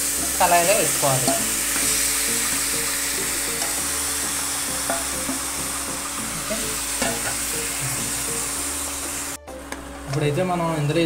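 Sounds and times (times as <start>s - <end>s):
chicken sizzling in a pan: 0.0s - 9.4s.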